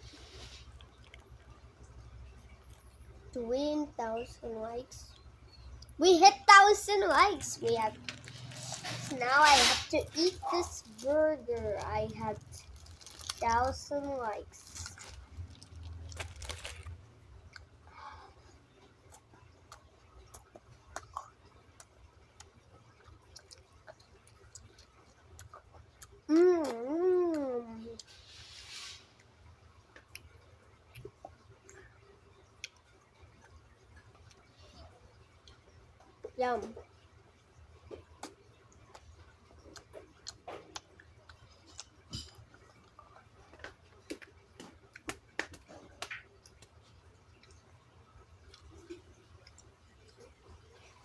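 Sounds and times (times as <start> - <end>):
faint chewing: 0.0 - 3.3, 6.8 - 36.9, 37.5 - 51.0.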